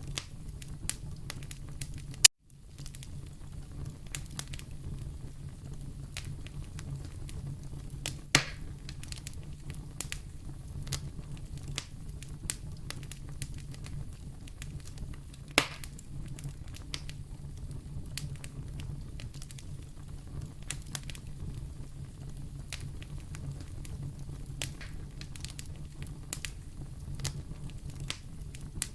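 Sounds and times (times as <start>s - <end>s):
fire pops: 0.0s - 28.9s
wood fire crackling: 0.0s - 28.9s.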